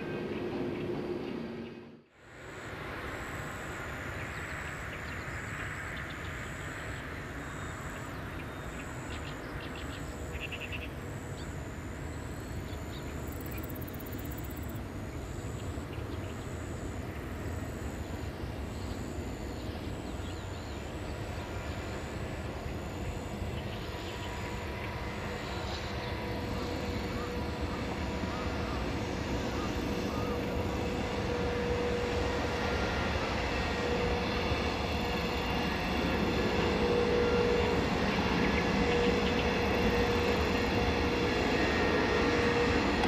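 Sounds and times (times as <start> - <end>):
distant freight train rumbling: 0.0 - 43.0.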